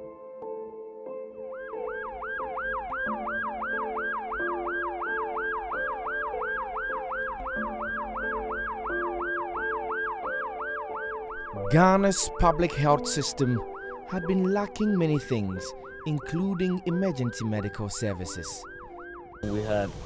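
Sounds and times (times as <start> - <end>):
background music: 0.0 - 20.0
ambulance siren yelping: 1.5 - 19.8.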